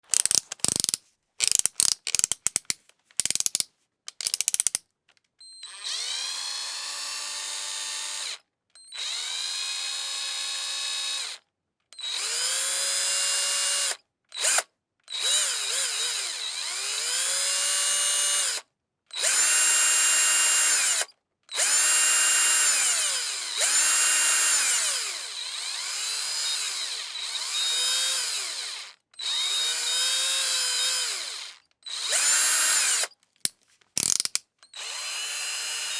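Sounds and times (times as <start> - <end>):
electric drill whirring: 0.1 - 2.6, 3.2 - 3.6, 4.2 - 4.8, 5.7 - 11.4, 12.0 - 18.6, 19.2 - 33.2, 34.0 - 35.9.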